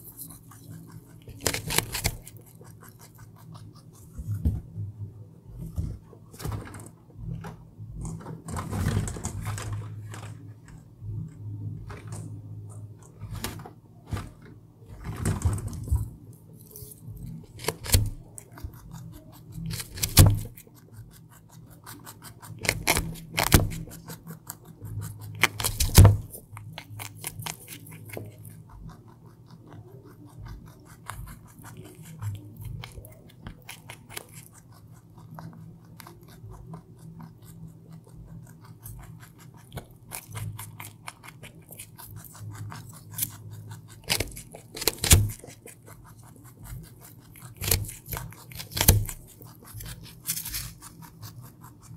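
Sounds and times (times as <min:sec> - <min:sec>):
low steady hum: 0:00.0 - 0:51.9
rabbit chewing carrot: 0:00.0 - 0:51.9.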